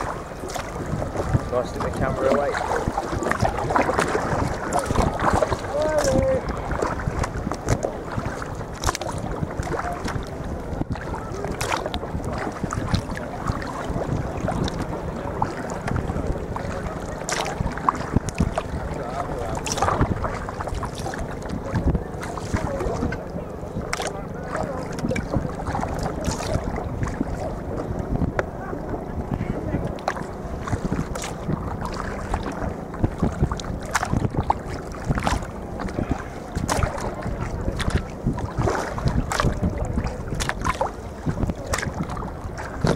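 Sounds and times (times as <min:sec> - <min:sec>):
water splashing around paddle: 0:00.0 - 0:42.9
wind rumble on microphone: 0:00.0 - 0:42.9.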